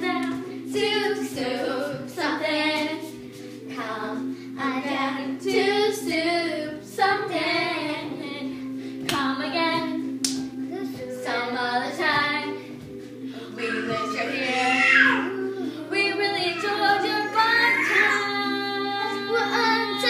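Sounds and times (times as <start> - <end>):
children singing: 0.0 - 8.7, 10.6 - 12.6, 13.3 - 20.0.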